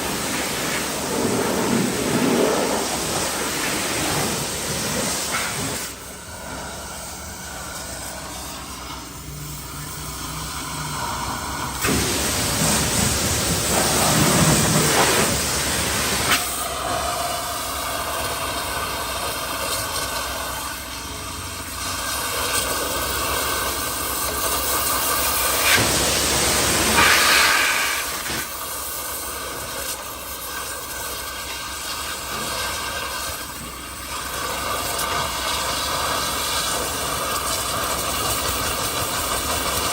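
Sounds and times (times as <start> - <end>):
machine drone: 0.0 - 39.9
pressure washer spraying water: 0.0 - 39.9.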